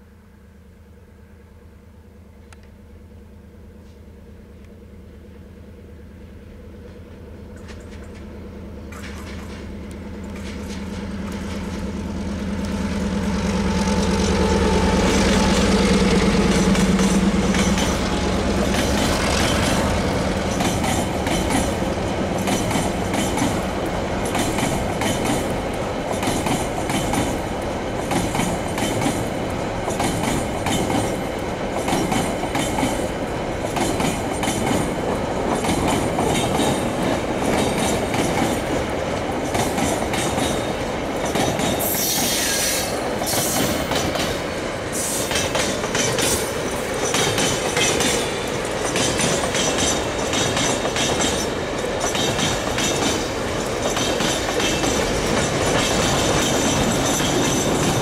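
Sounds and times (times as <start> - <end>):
diesel locomotive passing: 0.0 - 58.0
train wheels clattering over rail joints: 8.9 - 14.2, 15.0 - 58.0.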